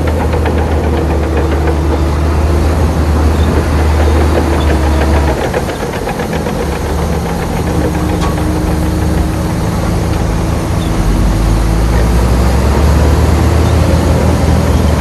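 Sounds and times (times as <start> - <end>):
bulldozer diesel engine clattering: 0.0 - 15.0.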